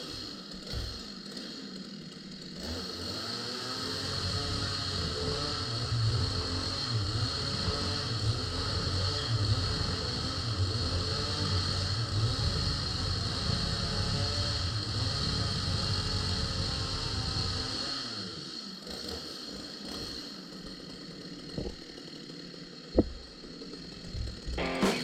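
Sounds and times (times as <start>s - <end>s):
chainsaw idling and winding down: 0.0s - 25.0s.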